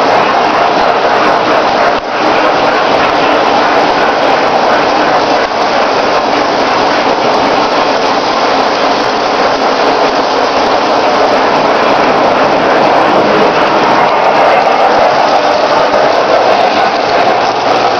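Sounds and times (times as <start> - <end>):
model train running on track: 0.0 - 17.9.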